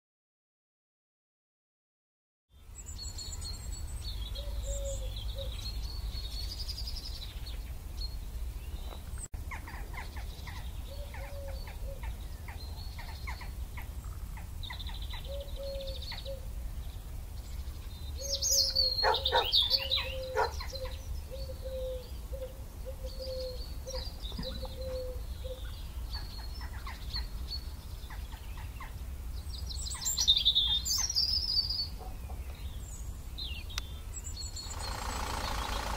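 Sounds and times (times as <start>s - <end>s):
birds chirping and calling: 2.6s - 35.9s.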